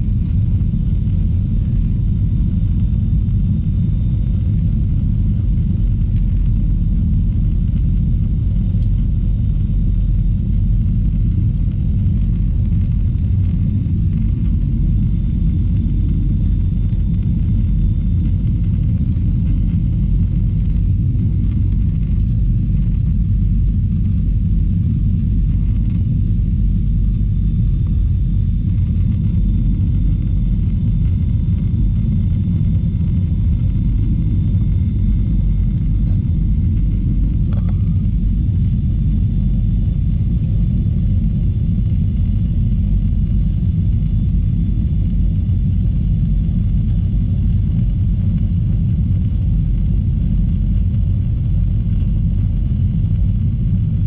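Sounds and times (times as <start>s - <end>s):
airliner cabin rumble: 0.0s - 54.0s
faint whining tones: 0.0s - 54.0s.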